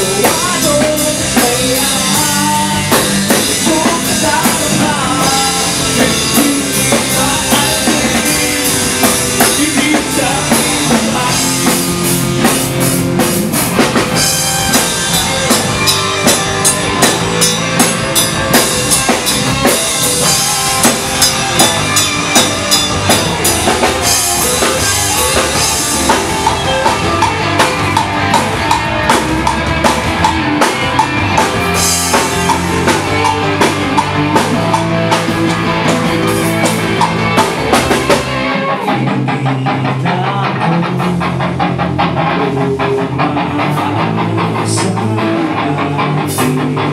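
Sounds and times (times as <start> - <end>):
drum kit beat: 0.0 - 45.4
bass guitar: 0.0 - 46.9
electric guitars: 0.0 - 46.9.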